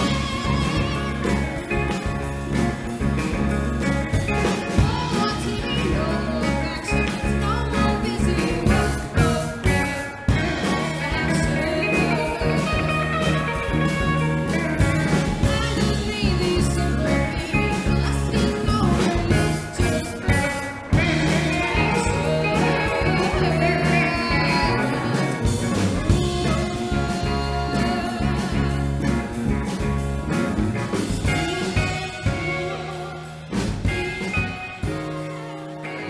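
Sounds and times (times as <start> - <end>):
woman singing: 0.0 - 2.2, 4.4 - 29.5, 31.2 - 36.0
bass guitar: 0.0 - 36.0
drum kit: 0.0 - 36.0
electric guitars: 0.0 - 36.0.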